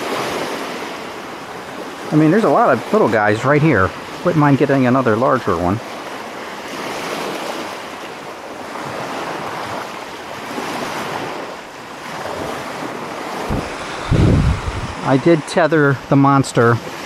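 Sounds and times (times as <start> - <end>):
small waves washing on sand: 0.0 - 17.0.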